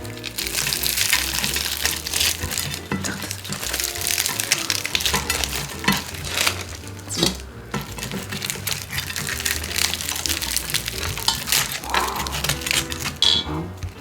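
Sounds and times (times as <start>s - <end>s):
crunching and chewing fried chicken: 0.0s - 14.0s
faint background music: 0.0s - 14.0s.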